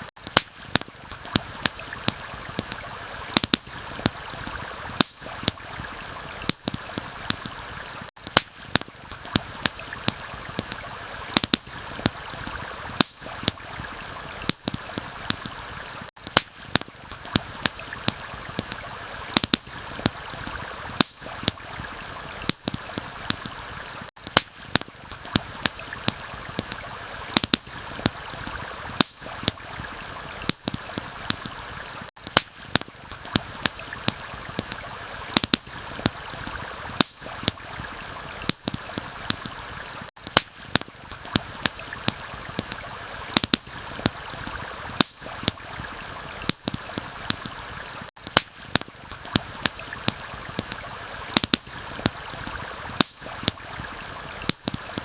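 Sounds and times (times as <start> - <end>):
campfire crackling and popping: 0.0 - 55.0
flowing stream: 0.0 - 55.0.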